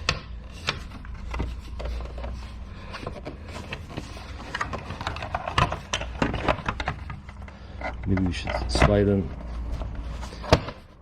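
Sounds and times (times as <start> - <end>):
plastic parts clicking and knocking: 0.0 - 11.0.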